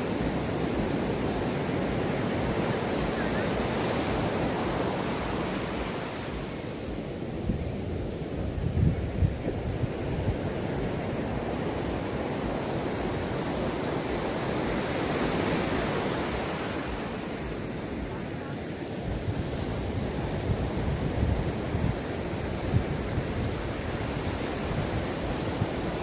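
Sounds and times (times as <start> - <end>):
ocean waves on beach: 0.0 - 26.0
wind rumble on microphone: 0.0 - 26.0.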